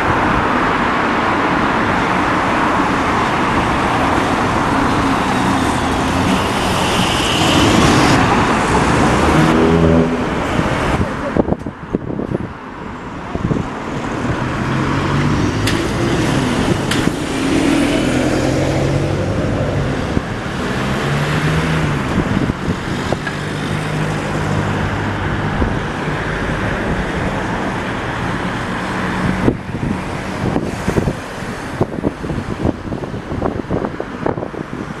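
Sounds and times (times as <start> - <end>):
diesel bus engine accelerating: 0.0 - 34.8
passing car traffic: 0.0 - 35.0
road noise: 0.0 - 35.0.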